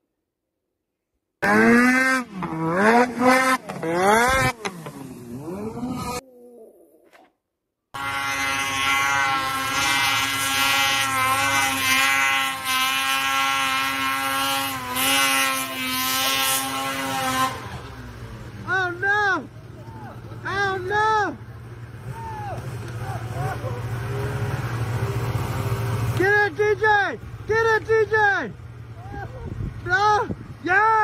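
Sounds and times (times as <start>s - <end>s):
snowmobile engines revving: 1.4s - 6.2s, 8.0s - 31.0s.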